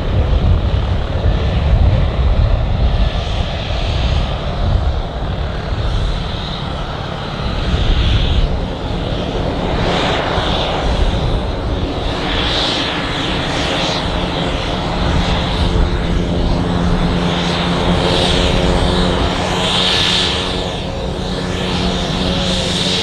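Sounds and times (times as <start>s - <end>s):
aircraft engine rumble: 0.0s - 23.0s.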